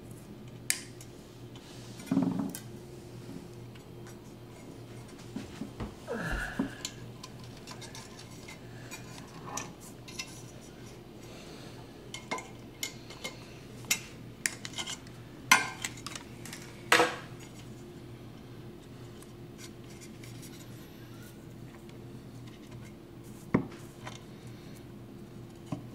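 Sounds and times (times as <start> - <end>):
faint steady hum: 0.0 - 25.9.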